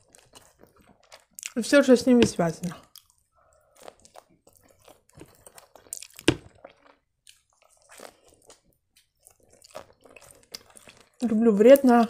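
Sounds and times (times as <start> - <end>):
crunching bites and chewing: 0.0 - 12.0.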